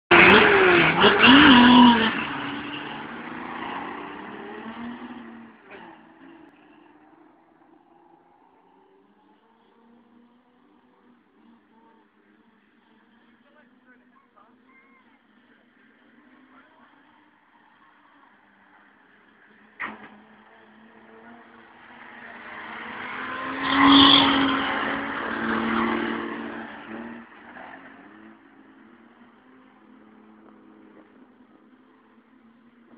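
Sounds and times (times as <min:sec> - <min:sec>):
stock car engines racing past: 0:00.1 - 0:32.9.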